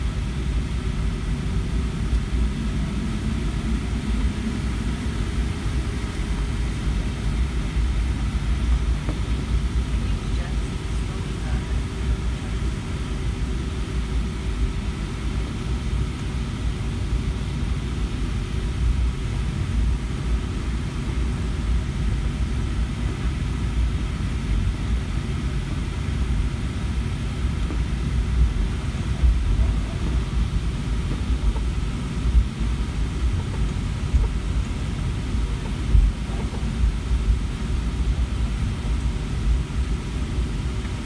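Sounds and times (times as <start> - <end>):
airplane cabin rumble while taxiing: 0.0 - 41.0
faint steady hum: 0.0 - 41.0.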